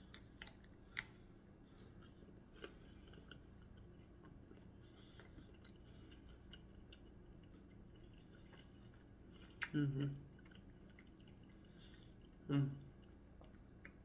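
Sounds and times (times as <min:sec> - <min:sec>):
quiet chewing: 0:00.0 - 0:14.0.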